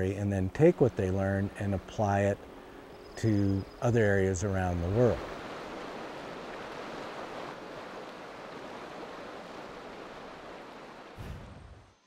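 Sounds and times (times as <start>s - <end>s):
flowing water rushing: 0.0s - 11.2s.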